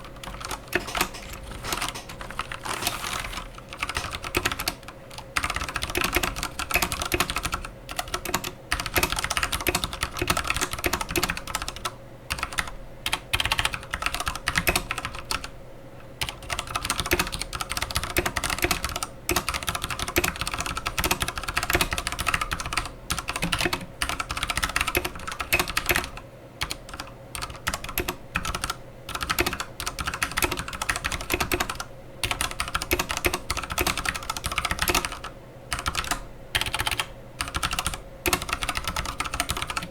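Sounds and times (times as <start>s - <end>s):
mechanical keyboard typing: 0.0s - 15.5s, 16.2s - 39.9s.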